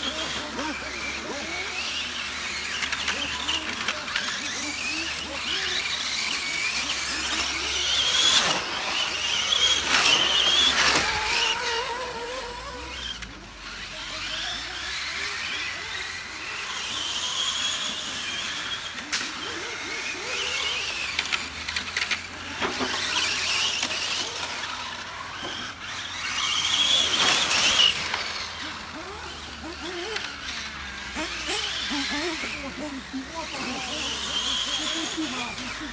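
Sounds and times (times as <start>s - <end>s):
electric rc car motors whining: 0.0s - 35.9s.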